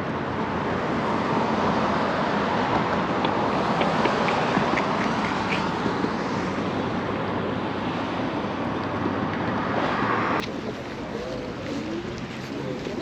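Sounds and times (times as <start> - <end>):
passing cars: 0.0 - 13.0.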